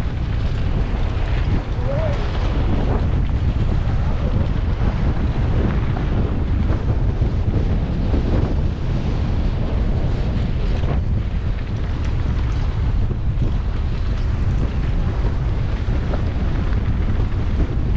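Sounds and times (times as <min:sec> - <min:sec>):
bike clicks and crunches: 0:00.0 - 0:08.5, 0:09.3 - 0:17.9
wind buffeting microphone: 0:00.0 - 0:17.9.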